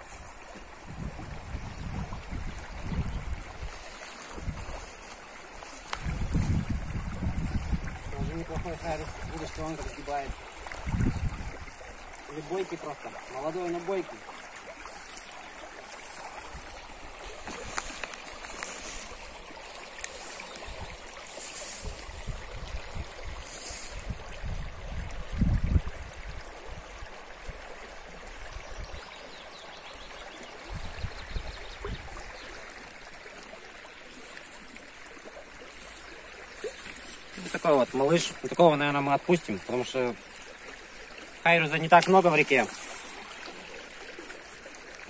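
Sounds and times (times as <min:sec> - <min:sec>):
river running over stones: 0:00.0 - 0:45.0.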